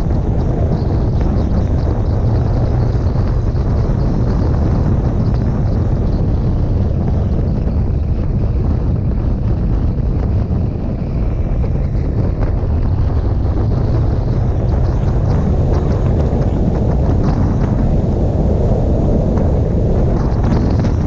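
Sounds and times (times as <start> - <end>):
motorcycle engine rumble: 0.0 - 21.0
wind rushing over microphone: 0.0 - 21.0.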